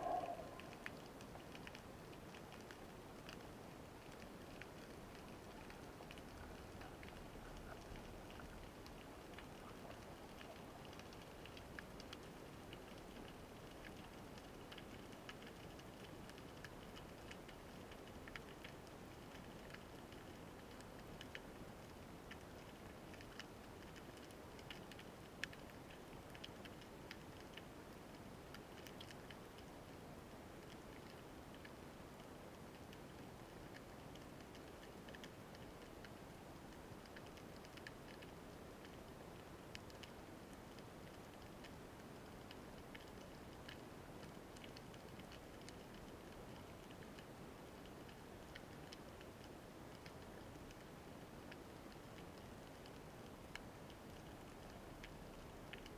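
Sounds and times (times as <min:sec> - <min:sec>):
sharp clicks and crackles: 0:00.0 - 0:30.0, 0:30.6 - 0:36.2, 0:36.8 - 0:55.9.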